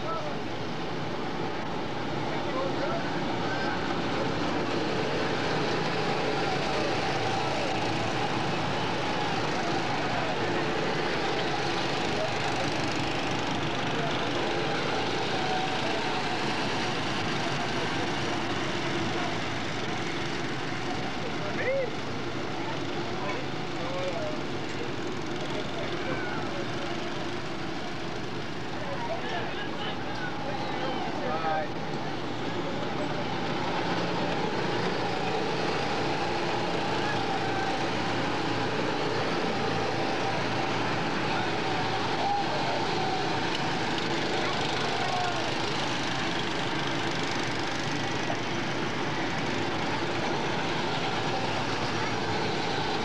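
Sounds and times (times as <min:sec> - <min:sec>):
go-kart engines driving past: 0:00.0 - 0:53.0.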